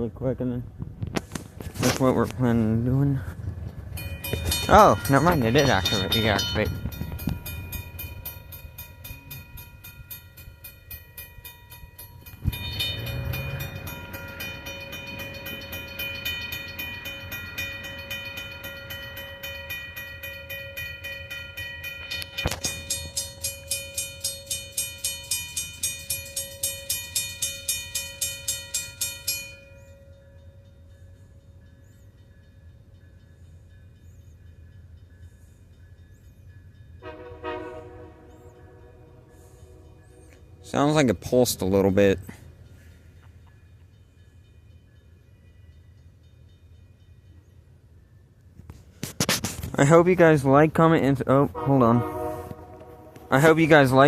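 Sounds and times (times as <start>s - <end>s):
passing train rumble: 0.0s - 54.0s
railroad crossing bell ringing: 1.6s - 49.0s, 49.7s - 54.0s.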